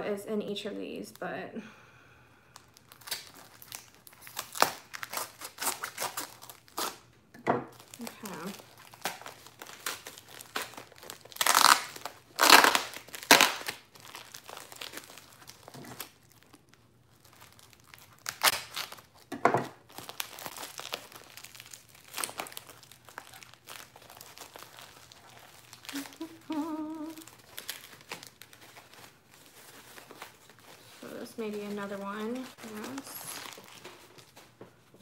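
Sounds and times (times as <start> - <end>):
wrapping crinkling and tearing: 2.4 - 35.0.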